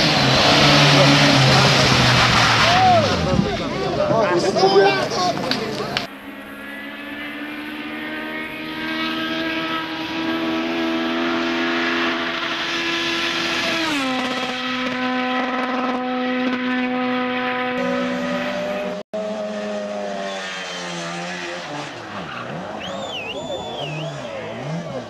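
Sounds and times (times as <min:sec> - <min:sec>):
racing car engine revving: 0:00.0 - 0:25.0.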